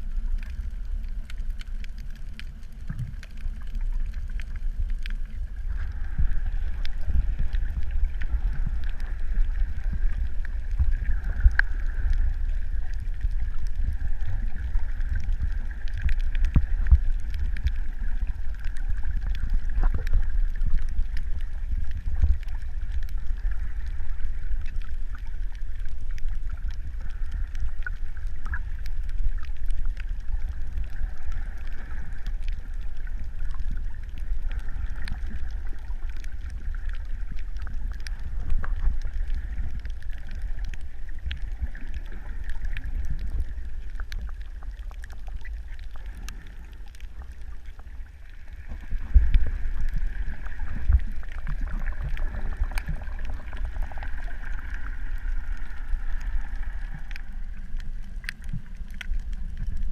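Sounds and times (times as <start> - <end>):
faint even hum: 0.0 - 59.7
low underwater rumble: 0.0 - 59.9.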